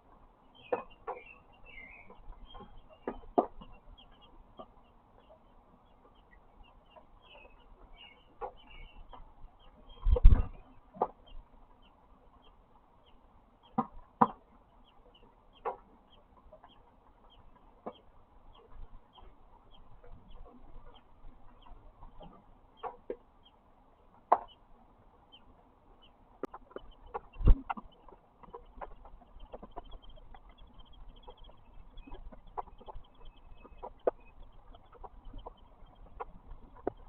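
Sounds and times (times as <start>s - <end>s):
bird peeping: 0.4s - 23.6s, 24.3s - 37.0s.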